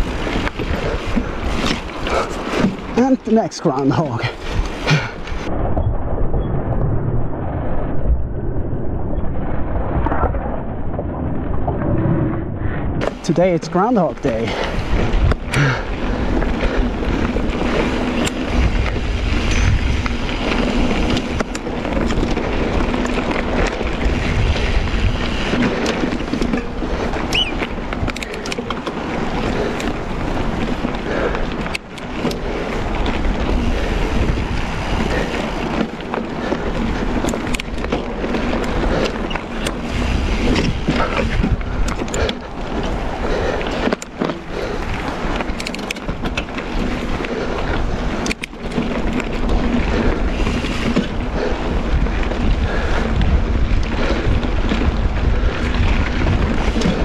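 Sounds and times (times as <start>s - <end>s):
tyres rolling on gravel: 0.0s - 5.5s, 13.0s - 57.0s
bike clicks and rattles: 0.0s - 6.0s, 13.0s - 57.0s
wind on microphone: 0.0s - 57.0s.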